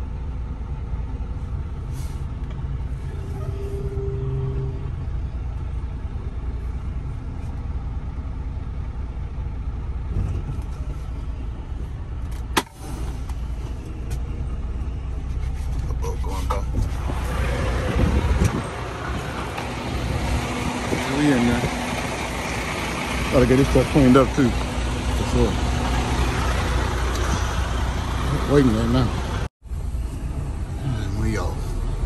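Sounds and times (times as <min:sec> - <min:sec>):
diesel truck engine rumbling: 0:00.0 - 0:32.0.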